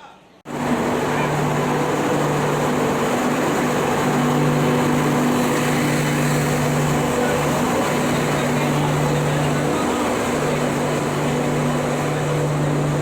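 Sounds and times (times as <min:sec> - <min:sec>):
noisy rumble: 0:00.5 - 0:13.0
standing train humming: 0:00.5 - 0:13.0.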